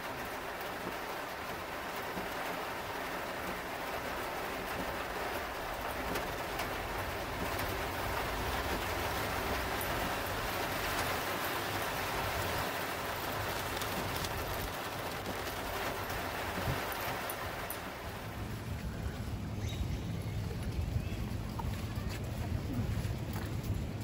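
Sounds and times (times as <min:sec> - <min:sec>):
heavy rain on a car: 0:00.0 - 0:24.0
tyres on a flooded road: 0:00.0 - 0:24.0.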